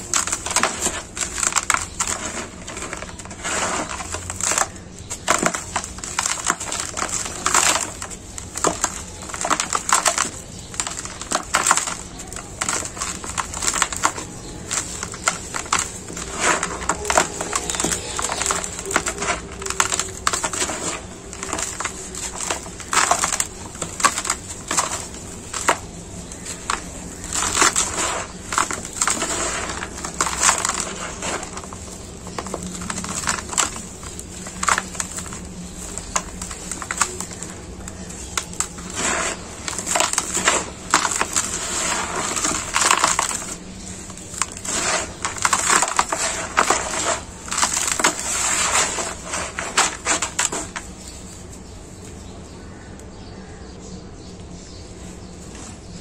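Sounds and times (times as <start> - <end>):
powder pouring through fingers: 0.0 - 51.6
sand crunching in gloved hands: 0.0 - 52.3.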